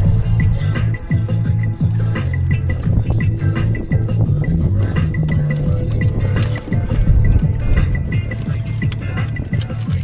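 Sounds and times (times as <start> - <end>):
music with deep bass and ticking beat: 0.0 - 10.0.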